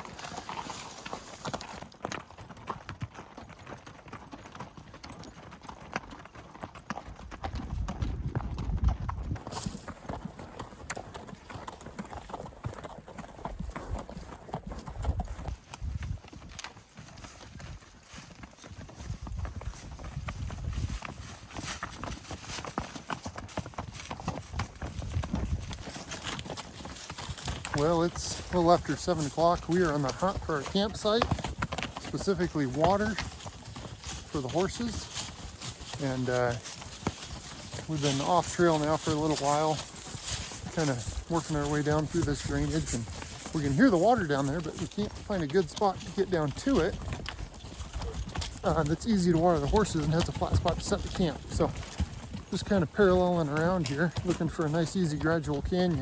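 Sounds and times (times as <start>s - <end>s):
hooves clip-clopping: 0.0s - 56.0s.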